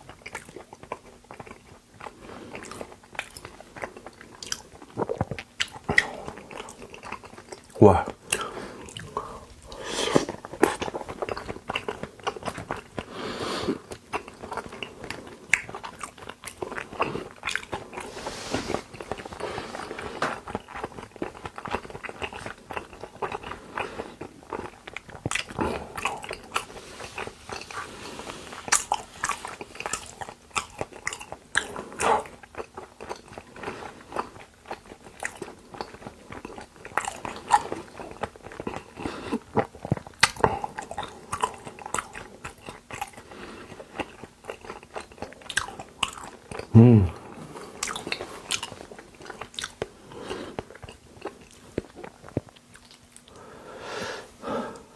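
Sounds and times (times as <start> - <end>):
person chewing wet food: 0.0 - 54.9.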